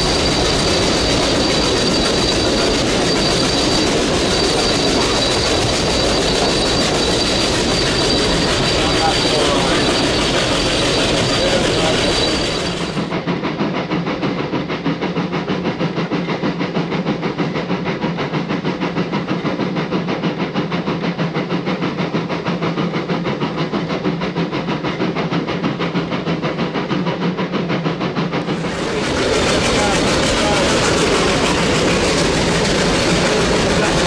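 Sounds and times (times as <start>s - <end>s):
steam hissing: 0.0s - 34.0s
steam locomotive chuffing: 0.0s - 34.0s.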